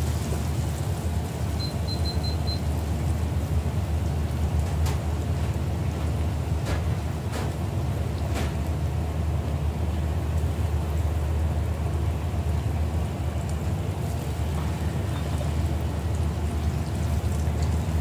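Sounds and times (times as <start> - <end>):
oil sizzling and bubbling: 0.0 - 18.0.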